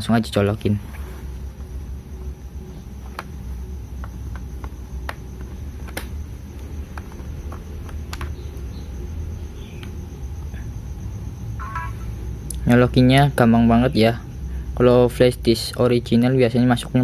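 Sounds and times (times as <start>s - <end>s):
low hum: 0.0s - 15.5s.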